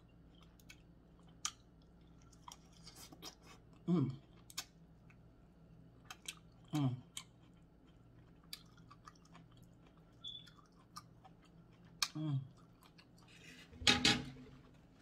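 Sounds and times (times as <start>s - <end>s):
chewing corn: 0.2s - 5.2s, 5.9s - 13.4s.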